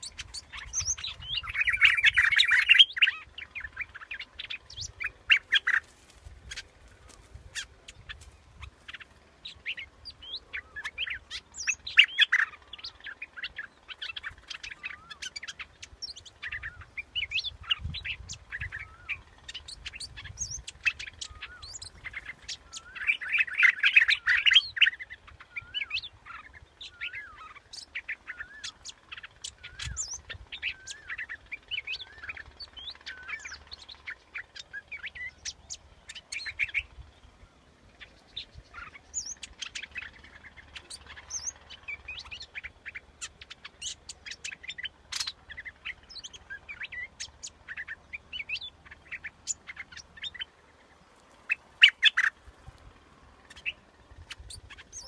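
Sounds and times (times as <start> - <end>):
bulbul singing warbled phrases: 0.0 - 55.0.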